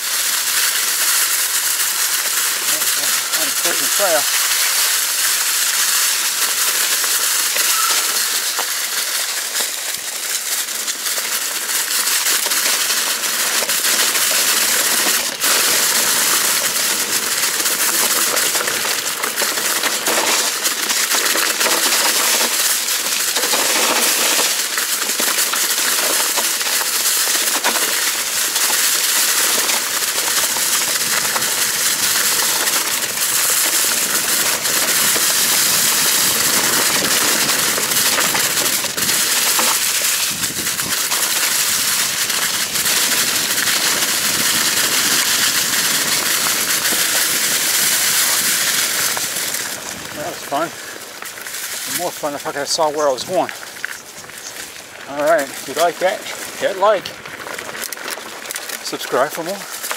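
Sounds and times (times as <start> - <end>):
bike tyres crunching dry leaves: 0.0 - 59.9.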